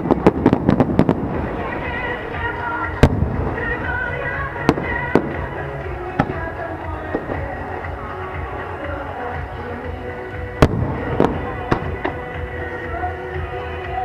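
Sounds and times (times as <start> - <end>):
fireworks bursting: 0.0 - 13.5
music: 0.0 - 14.0.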